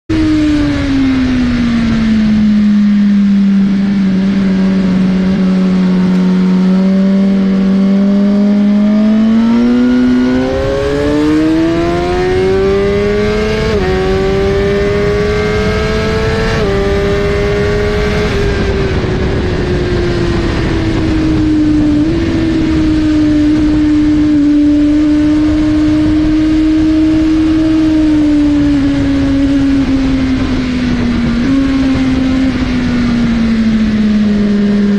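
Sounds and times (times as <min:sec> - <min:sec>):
motorcycle engine revving: 0:00.1 - 0:34.9
wind rushing: 0:01.1 - 0:34.9.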